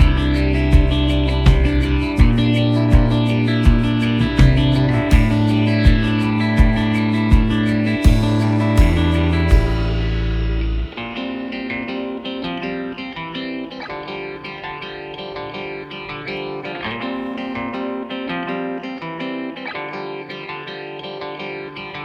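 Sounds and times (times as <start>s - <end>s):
plucked guitar music: 0.0s - 22.0s.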